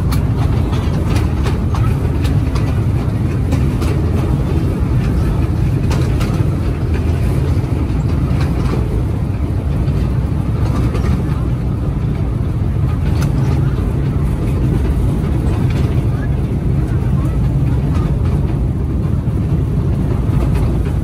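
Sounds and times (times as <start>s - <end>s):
ride train rumbling: 0.0s - 21.0s
wheels clicking on track: 0.0s - 21.0s.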